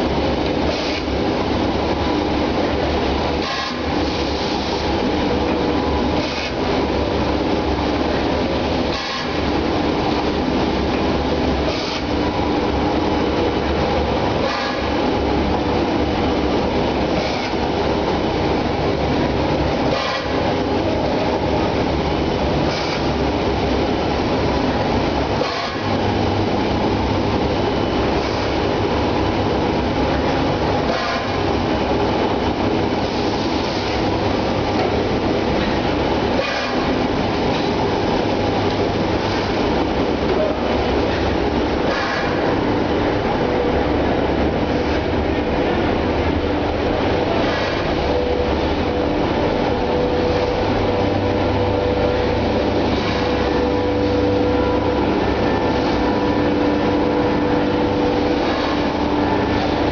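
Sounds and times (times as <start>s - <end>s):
production line machinery running: 0.0s - 59.9s.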